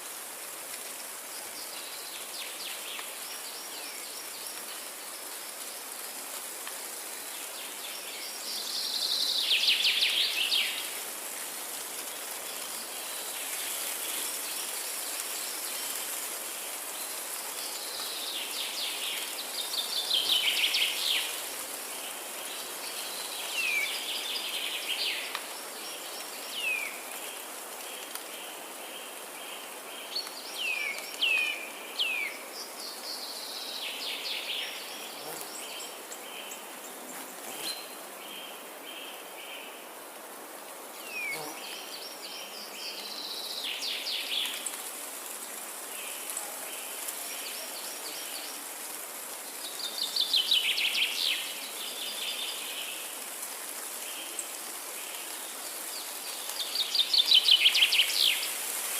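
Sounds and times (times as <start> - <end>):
steady high hiss: 0.0 - 58.9
forest birds singing: 1.3 - 11.1, 12.0 - 40.0, 40.8 - 58.8.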